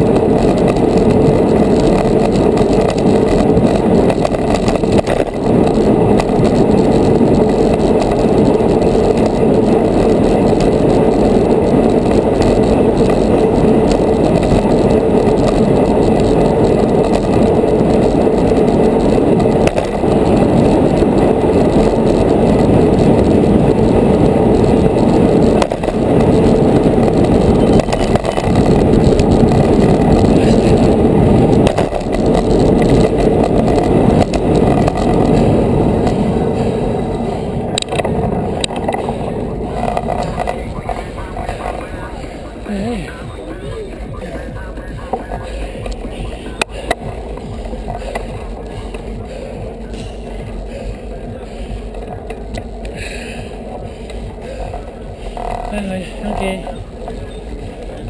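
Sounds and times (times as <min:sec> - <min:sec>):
bicycle tyre noise: 0:00.0 - 0:58.0
wind rush: 0:00.0 - 0:58.0.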